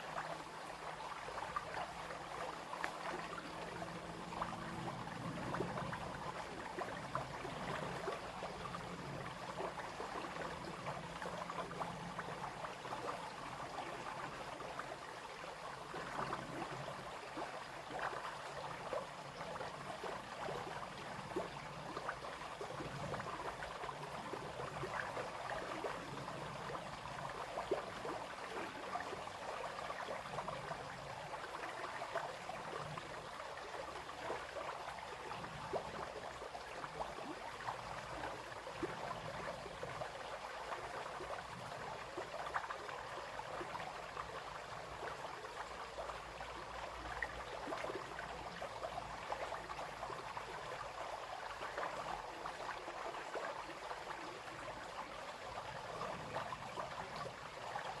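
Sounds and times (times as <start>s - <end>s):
brook water babbling over stones: 0.0s - 58.0s.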